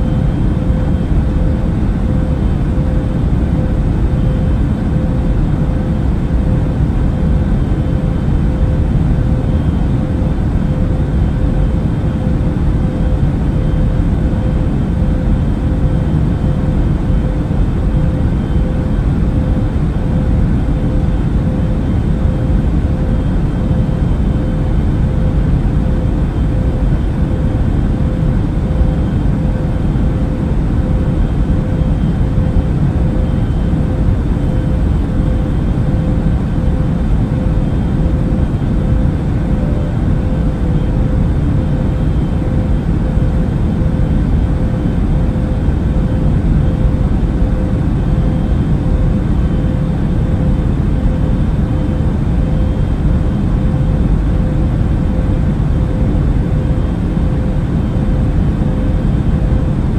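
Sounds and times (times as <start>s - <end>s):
airliner cabin roar: 0.0s - 59.9s
faint steady hum: 0.0s - 59.9s.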